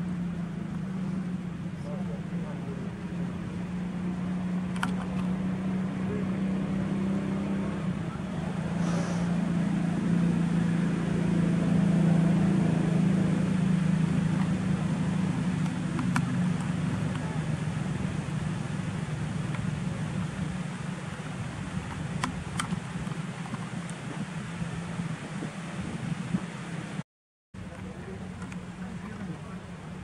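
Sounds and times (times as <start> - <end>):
low engine drone: 0.0 - 27.0, 27.6 - 30.0.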